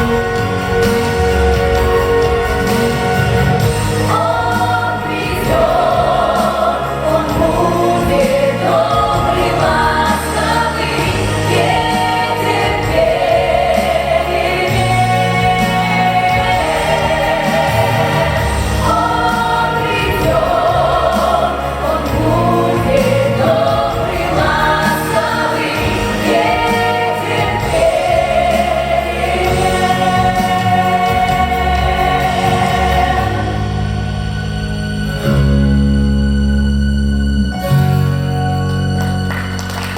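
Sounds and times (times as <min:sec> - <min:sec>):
vocal ensemble singing in harmony: 0:00.0 - 0:38.0.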